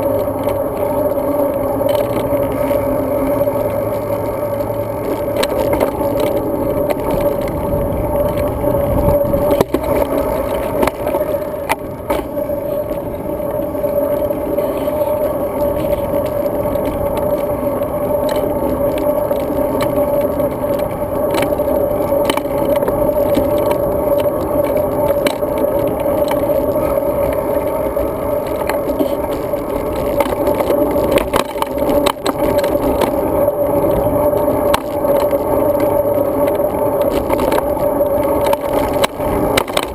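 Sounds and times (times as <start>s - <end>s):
bike rattling over bumps: 0.0s - 39.9s
bike tyres humming on road: 0.0s - 39.9s.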